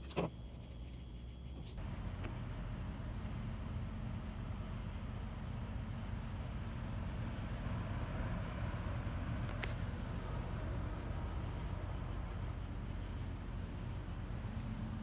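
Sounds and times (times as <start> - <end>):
crickets trilling: 0.0 - 15.0
low steady rumble: 0.2 - 15.0.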